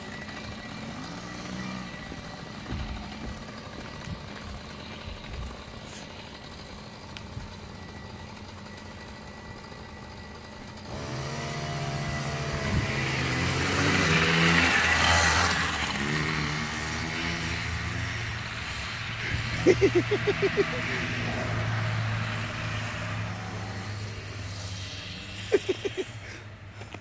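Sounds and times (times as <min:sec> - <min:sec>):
small dirt bike engine revving: 0:00.0 - 0:27.0.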